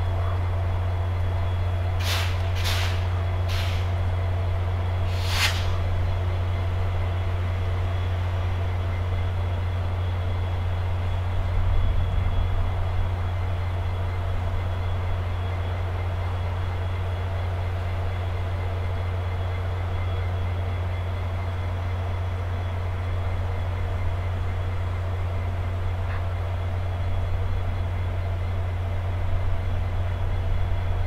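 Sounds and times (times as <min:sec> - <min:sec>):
low diesel hum: 0:00.0 - 0:31.0.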